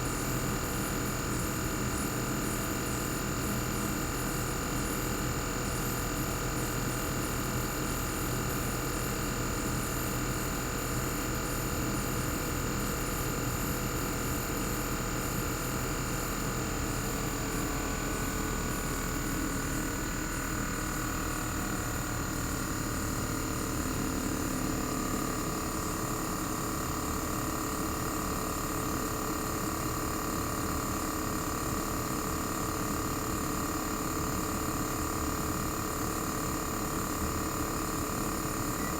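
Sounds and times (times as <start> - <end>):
air conditioner compressor hum: 0.0 - 38.9.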